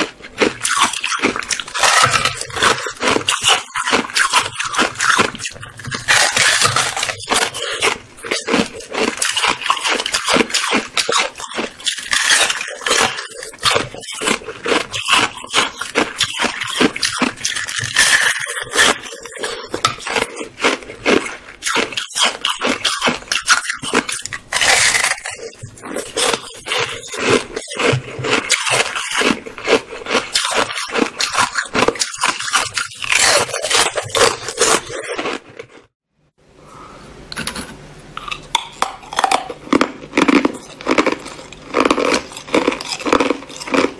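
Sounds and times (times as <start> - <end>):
ice being crunched and chewed: 0.0 - 35.9, 37.4 - 43.9.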